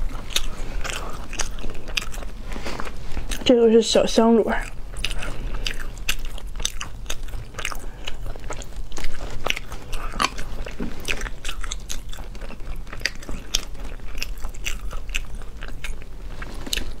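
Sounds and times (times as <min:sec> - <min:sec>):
chewing: 0:00.0 - 0:03.7, 0:04.4 - 0:17.0.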